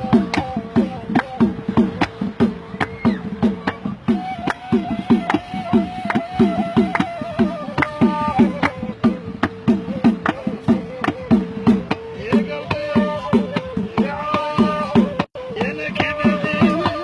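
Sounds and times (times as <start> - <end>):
hand drum beat: 0.0 - 17.0
reed flute melody: 0.0 - 17.0.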